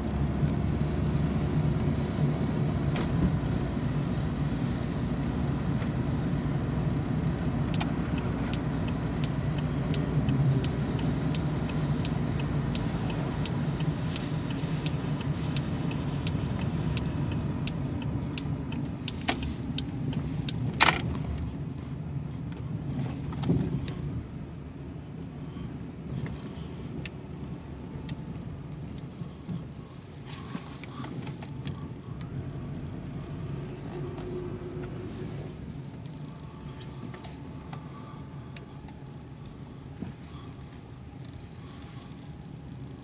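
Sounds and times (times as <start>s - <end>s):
car engine running: 0.0s - 43.0s
road noise: 0.0s - 43.0s
turn signal ticking: 0.0s - 43.0s.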